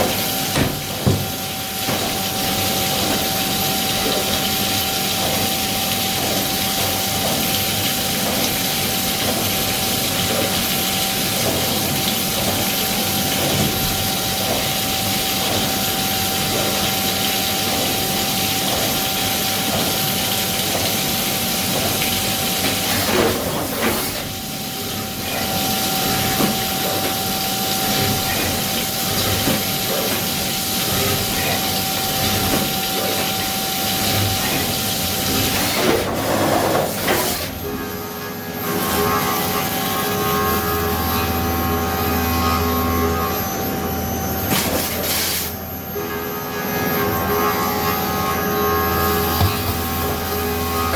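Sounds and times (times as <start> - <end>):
milling machine high whine: 0.0 - 50.9.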